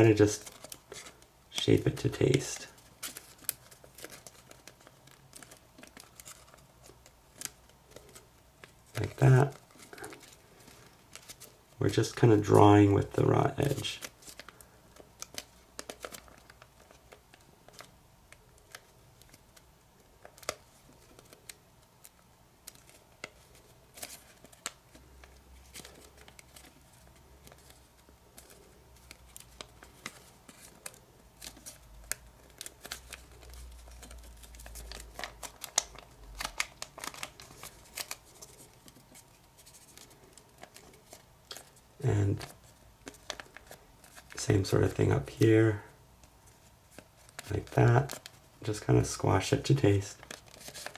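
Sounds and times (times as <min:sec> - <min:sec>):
paper crinkling and crackling: 0:00.0 - 0:50.9.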